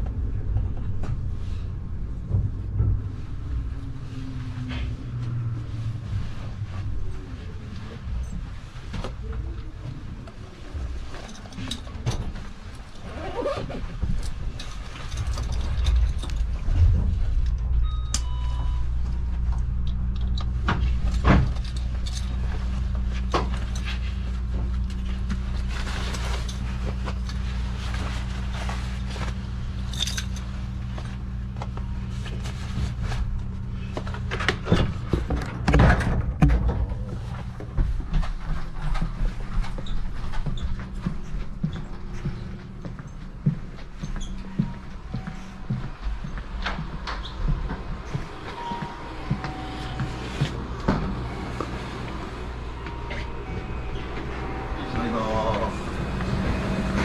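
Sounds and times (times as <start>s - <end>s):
train machinery hum: 0.0s - 57.0s.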